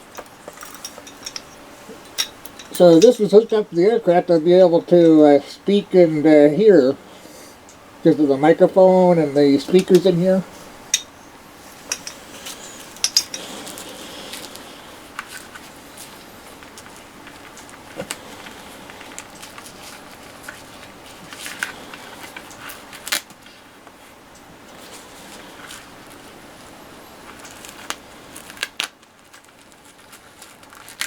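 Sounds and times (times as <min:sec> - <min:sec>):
handling clicks and rustles: 0:00.0 - 0:07.0, 0:07.6 - 0:31.0
faint room hiss: 0:00.0 - 0:31.0.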